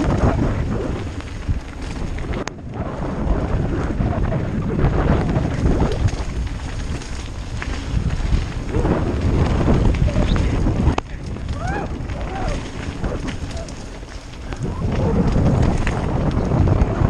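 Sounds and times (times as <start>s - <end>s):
bike tyres rumbling and rattling: 0.0s - 17.0s
wind buffeting microphone: 0.0s - 17.0s.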